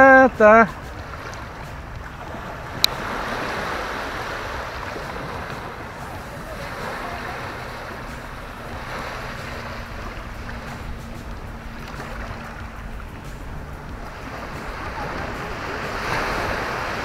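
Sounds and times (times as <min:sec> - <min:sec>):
small waves washing on sand: 0:00.0 - 0:17.0
wind on microphone: 0:00.0 - 0:17.0.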